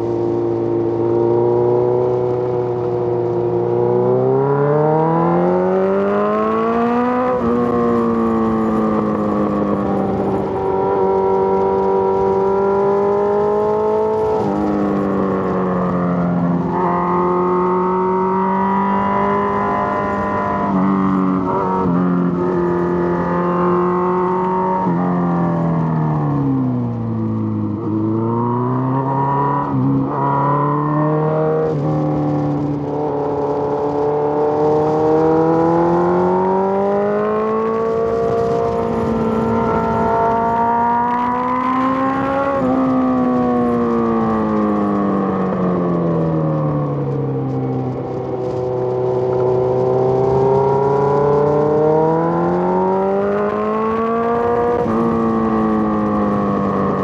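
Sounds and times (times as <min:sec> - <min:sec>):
motorcycle engine revving: 0:00.6 - 0:57.0.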